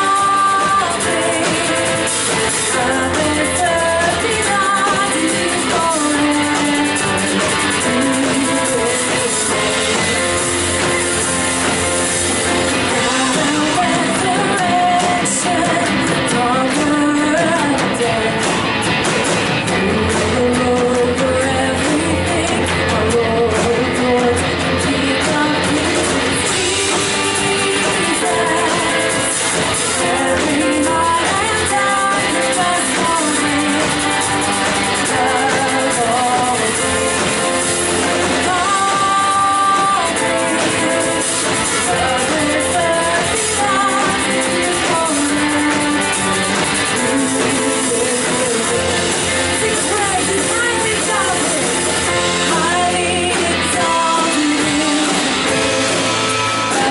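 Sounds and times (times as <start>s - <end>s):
drum kit: 0.0s - 56.9s
electric guitar: 0.0s - 56.9s
person singing: 0.0s - 56.9s.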